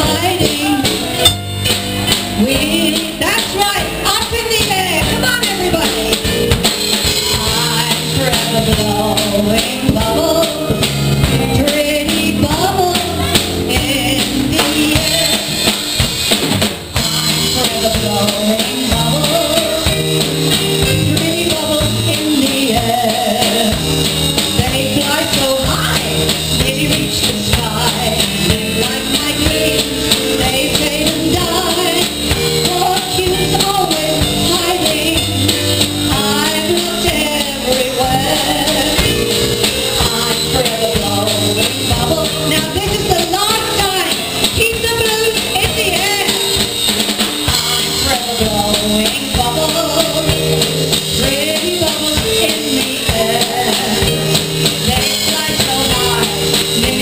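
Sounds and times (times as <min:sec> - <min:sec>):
person singing: 0:00.0 - 0:01.3, 0:07.2 - 0:15.7, 0:17.0 - 0:20.2, 0:20.9 - 0:24.0, 0:24.6 - 0:46.5, 0:47.5 - 0:50.6, 0:51.2 - 0:57.0
drum kit: 0:00.0 - 0:57.0
electric keyboard: 0:00.0 - 0:57.0.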